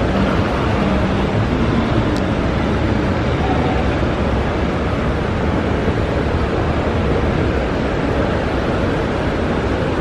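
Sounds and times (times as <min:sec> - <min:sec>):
airport terminal ambience: 0:00.0 - 0:10.0.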